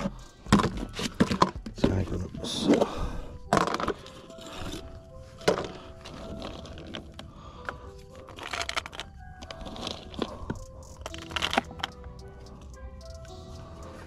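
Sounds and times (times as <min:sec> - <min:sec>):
bait and plastic tube clattering: 0:00.0 - 0:02.9, 0:03.5 - 0:12.0
background music: 0:00.0 - 0:14.0.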